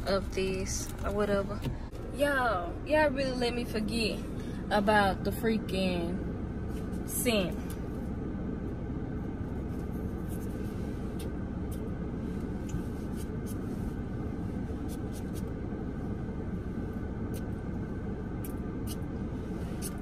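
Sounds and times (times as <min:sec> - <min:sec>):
car low hum: 0:00.0 - 0:20.0.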